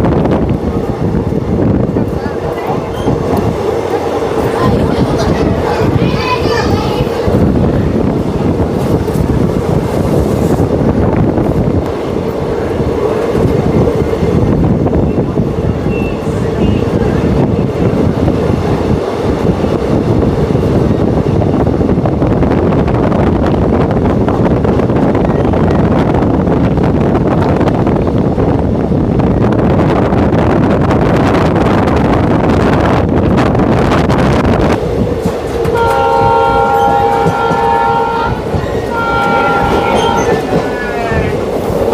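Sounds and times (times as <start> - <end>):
train wheels rumbling on rails: 0.0 - 41.9
wind buffeting microphone: 0.0 - 41.9.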